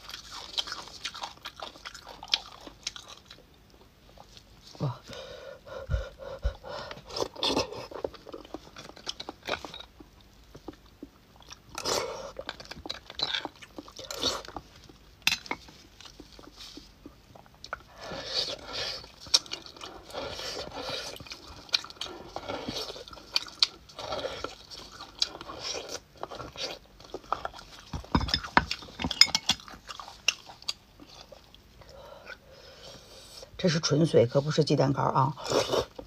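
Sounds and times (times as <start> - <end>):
wet smacking and chewing: 0.0 - 4.5, 6.8 - 32.4.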